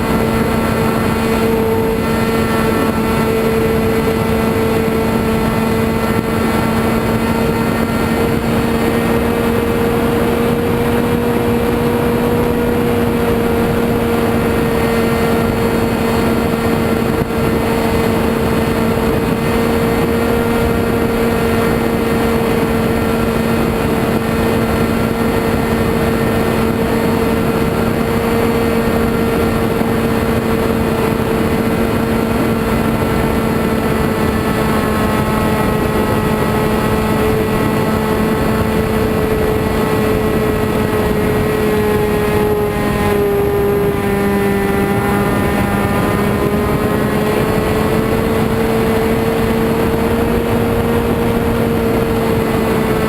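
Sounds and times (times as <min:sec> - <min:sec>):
model airplane engine high pitch: 0:00.0 - 0:53.0.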